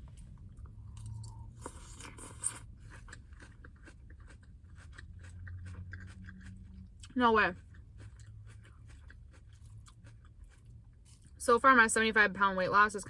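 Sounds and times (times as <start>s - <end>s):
person chewing crisp salad: 0.0s - 11.4s
low steady hum: 0.0s - 13.0s.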